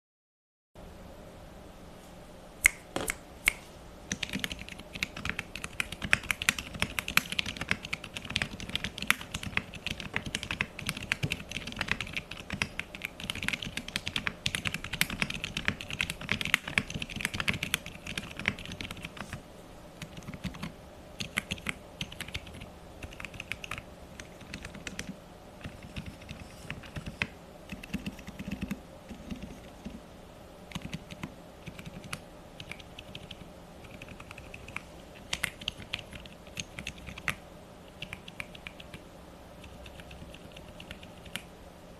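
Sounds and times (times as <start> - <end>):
typing on mechanical keyboard: 4.1 - 19.3, 20.0 - 29.7, 30.7 - 37.4, 38.0 - 39.0, 39.6 - 41.5.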